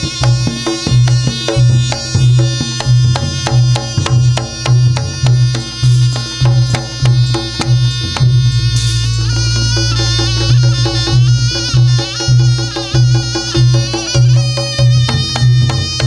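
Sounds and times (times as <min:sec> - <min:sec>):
drums playing fast rhythm: 0:00.0 - 0:16.0
struck gongs ringing: 0:00.0 - 0:16.0.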